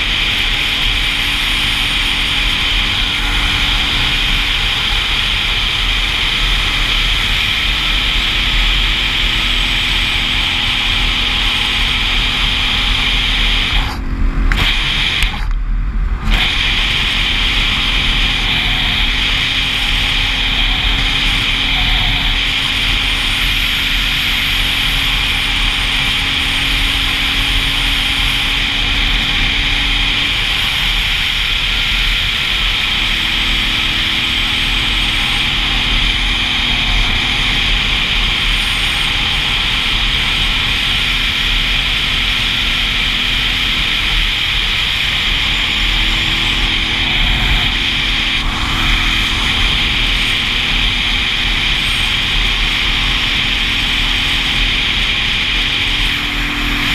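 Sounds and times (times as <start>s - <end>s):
motorcycle engine cruising: 0.0s - 56.9s
wind rush on microphone: 0.0s - 56.9s.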